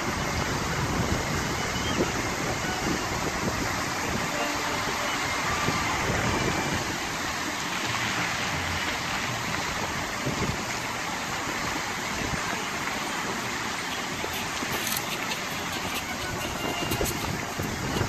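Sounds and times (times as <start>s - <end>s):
fountain water splashing into pool: 0.0s - 18.0s.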